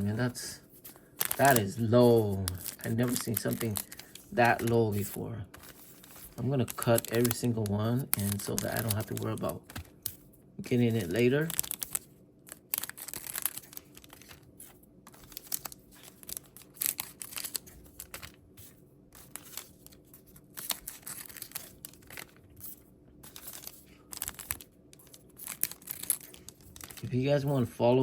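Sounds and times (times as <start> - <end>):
foil wrappers tearing and crinkling: 0.0 - 10.1, 10.8 - 14.5, 15.1 - 18.4, 19.2 - 27.1.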